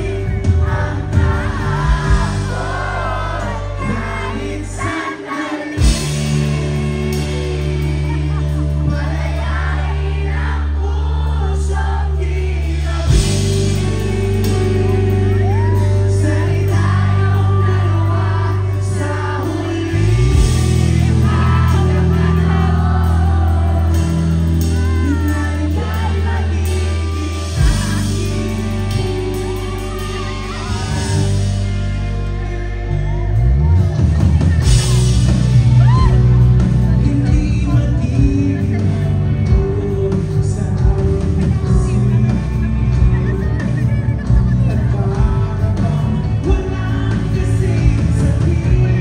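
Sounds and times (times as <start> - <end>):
live rock band playing: 0.0 - 49.0
person singing: 0.0 - 49.0.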